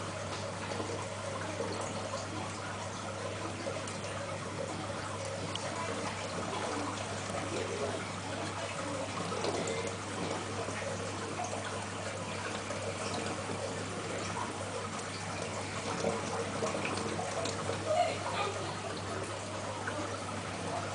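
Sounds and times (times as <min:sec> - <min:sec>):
aquarium water trickling: 0:00.0 - 0:20.9
low steady hum: 0:00.0 - 0:20.9.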